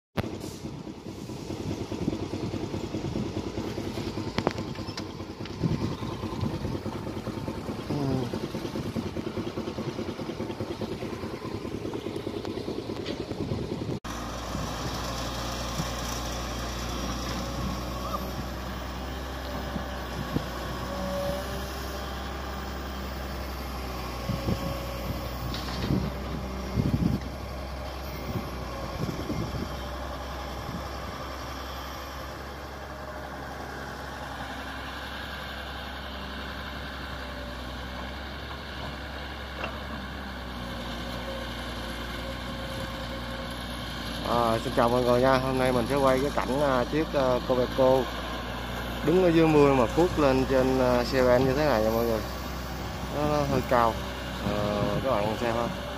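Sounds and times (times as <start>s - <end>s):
excavator diesel engine running: 0.2s - 55.9s.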